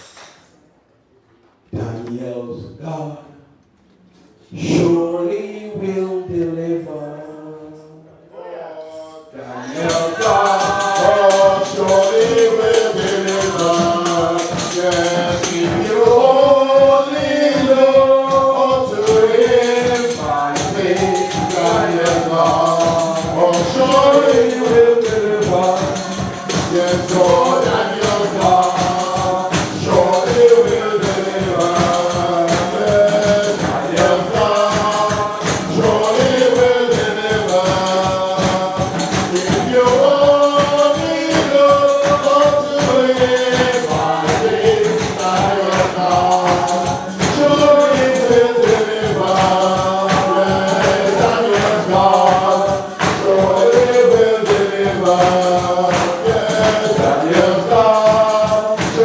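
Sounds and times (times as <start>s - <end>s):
group singing gospel song: 4.4s - 59.0s
tambourine and percussion: 9.6s - 59.0s.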